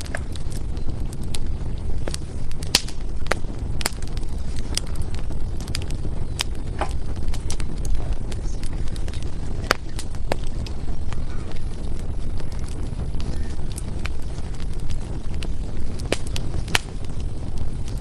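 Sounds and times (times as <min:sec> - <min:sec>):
fire low rumble: 0:00.0 - 0:18.0
firewood crackling and popping: 0:00.0 - 0:18.0.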